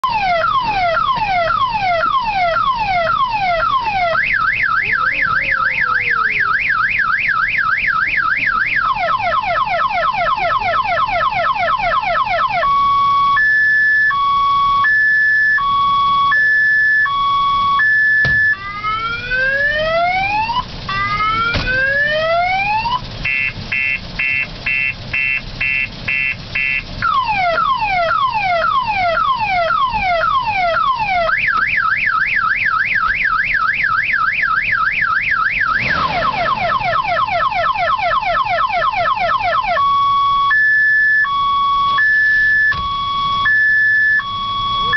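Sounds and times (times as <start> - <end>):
car alarm siren: 0.0 - 44.9.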